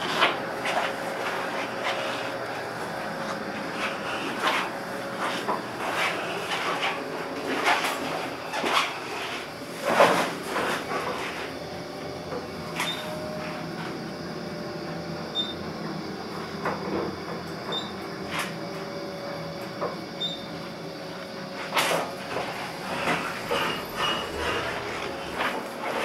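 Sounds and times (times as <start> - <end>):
elevator running hum: 0.0 - 26.0.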